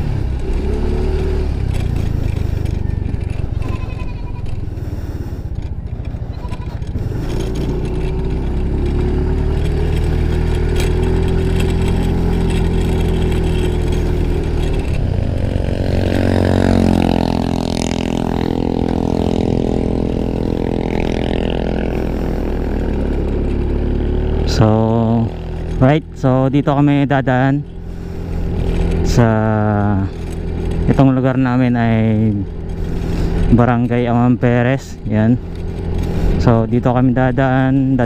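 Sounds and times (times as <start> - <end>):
scooter engine running: 0.0 - 38.0.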